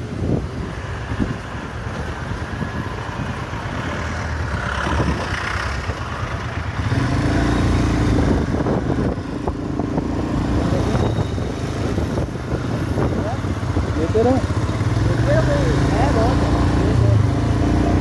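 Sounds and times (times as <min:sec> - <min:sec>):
motorcycle engine running: 0:02.0 - 0:18.0.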